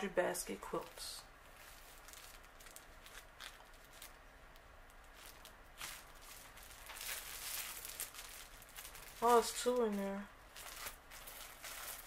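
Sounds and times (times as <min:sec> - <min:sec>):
fabric pack rustling in hands: 0:00.5 - 0:12.0.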